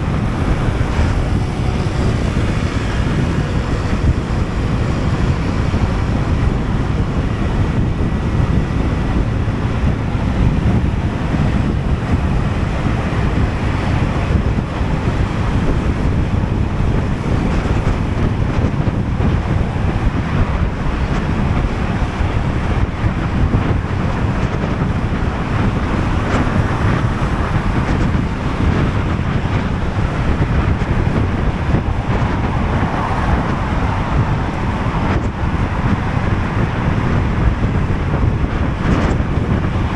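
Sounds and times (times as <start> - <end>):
scooter engine: 0.0 - 39.7
road noise: 0.0 - 39.9
wind rushing over microphone: 0.0 - 39.9.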